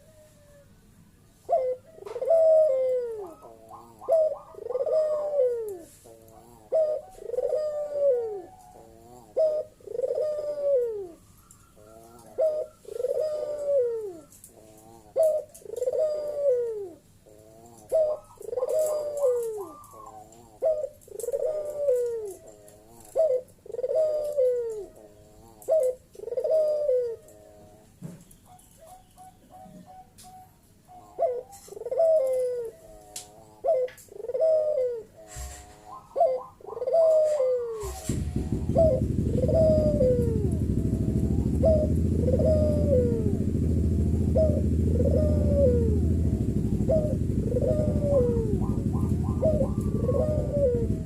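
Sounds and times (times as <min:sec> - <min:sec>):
dove cooing: 0:00.0 - 0:00.8, 0:01.4 - 0:51.0.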